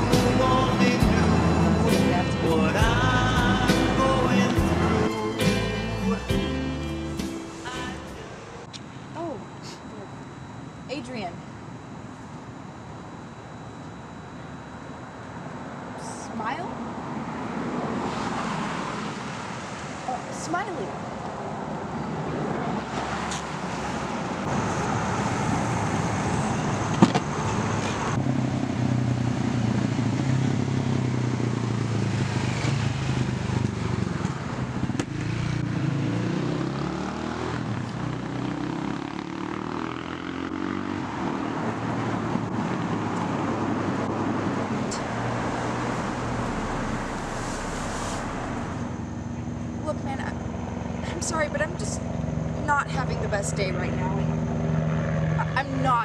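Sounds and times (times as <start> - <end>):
cars passing: 0.0 - 8.8, 16.5 - 56.0.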